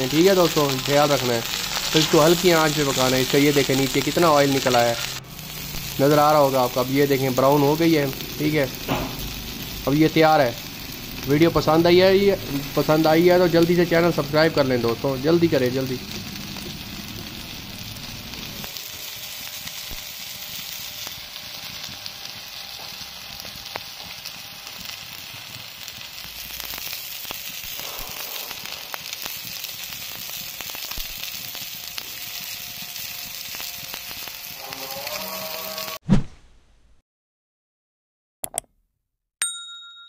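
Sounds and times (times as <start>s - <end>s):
fish sizzling on a griddle: 0.0s - 36.0s.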